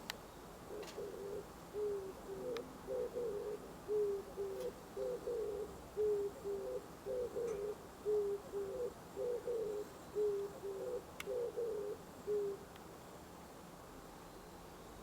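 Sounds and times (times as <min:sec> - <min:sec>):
dove cooing: 0:00.6 - 0:12.7.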